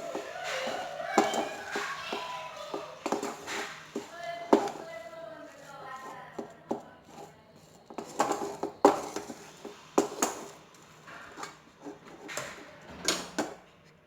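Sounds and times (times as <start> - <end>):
spatula scraping and knocking a pan: 0.0 - 13.6.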